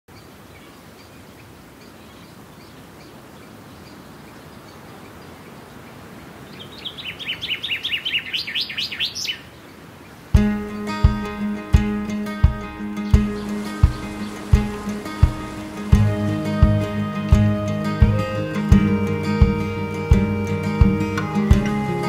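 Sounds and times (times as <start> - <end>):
outdoor background noise: 0.1 - 22.0
songbird chirping notes: 0.1 - 22.0.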